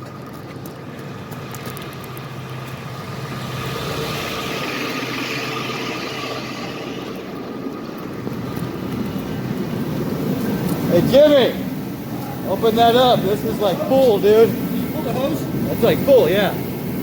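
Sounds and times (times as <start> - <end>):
rushing noise: 0.0 - 17.0.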